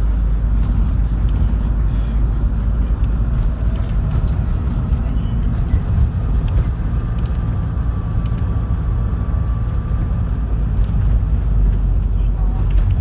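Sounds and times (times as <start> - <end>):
minibus engine and road rumble: 0.0 - 13.0.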